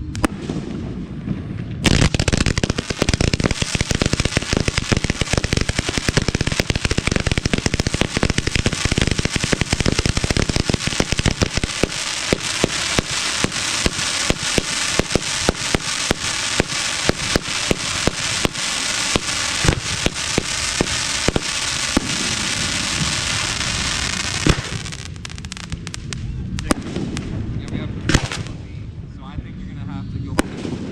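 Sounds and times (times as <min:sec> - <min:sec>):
fireworks bangs: 0:00.0 - 0:28.7, 0:30.4 - 0:30.9
fireworks crackling: 0:00.0 - 0:28.8.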